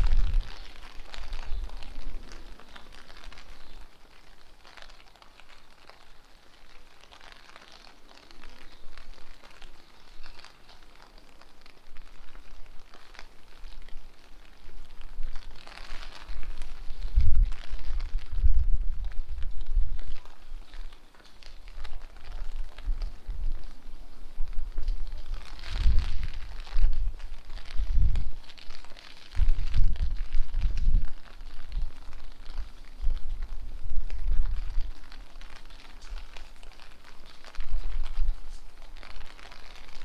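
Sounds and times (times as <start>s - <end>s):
rain pattering on street: 0.0s - 40.0s
wind rumbling on microphone: 0.0s - 40.0s.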